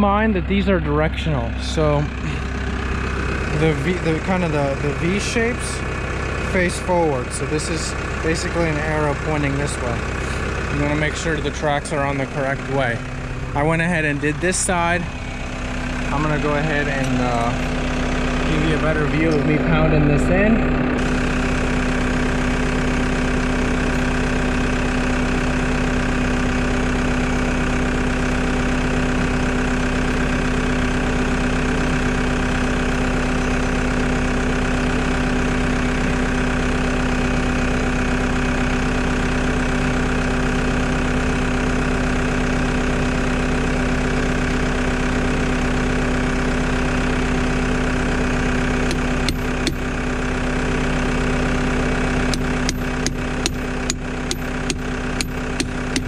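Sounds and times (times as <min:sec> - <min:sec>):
skid loader engine idling: 0:00.0 - 0:56.0.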